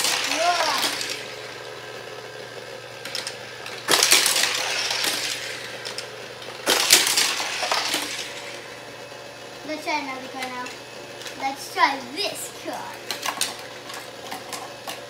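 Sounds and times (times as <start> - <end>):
toy car rattling along plastic track: 0.0 - 1.8, 3.0 - 8.7, 9.8 - 15.0.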